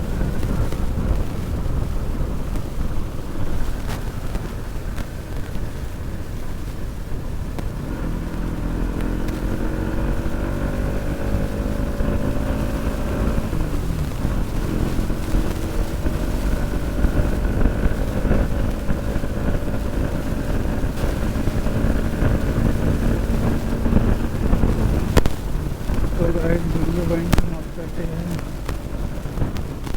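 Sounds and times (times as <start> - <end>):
motorcycle engine at full throttle: 0.0 - 29.9
wind rumble on microphone: 0.0 - 29.9.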